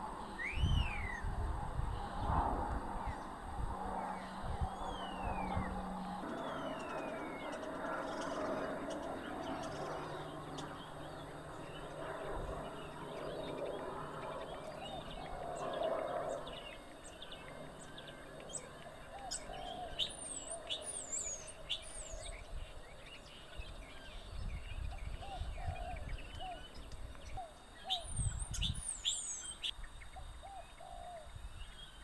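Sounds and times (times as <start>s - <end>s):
starlings chattering: 4.0s - 31.0s.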